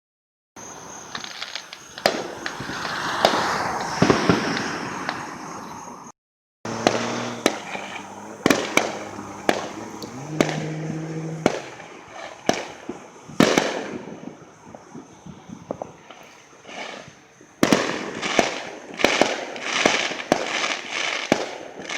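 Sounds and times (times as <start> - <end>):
fireworks crackling: 0.8 - 6.1, 6.7 - 21.9
fireworks bangs: 1.0 - 6.0, 6.7 - 21.9.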